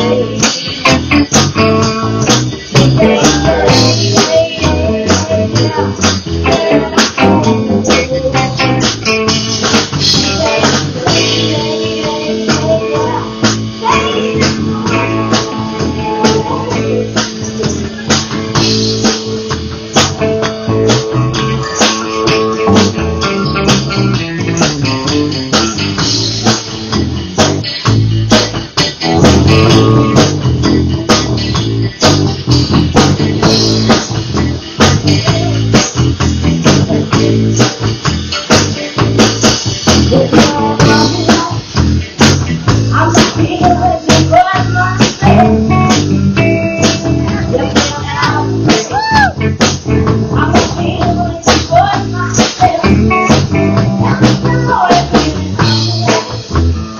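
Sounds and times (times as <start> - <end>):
bass guitar: 0.0 - 56.9
drum kit beat: 0.0 - 56.9
electric guitar: 0.0 - 56.9.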